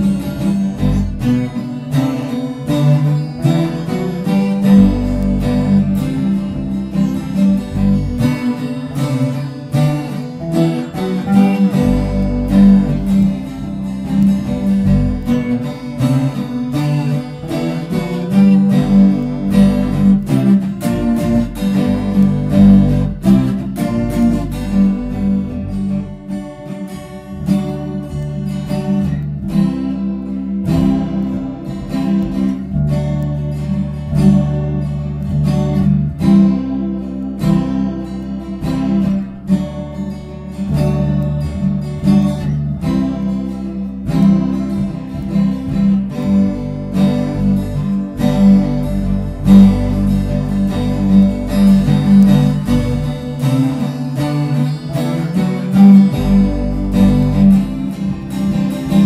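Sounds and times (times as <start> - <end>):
acoustic guitar strumming: 0.0 - 59.0
guitar picking notes: 0.0 - 59.0.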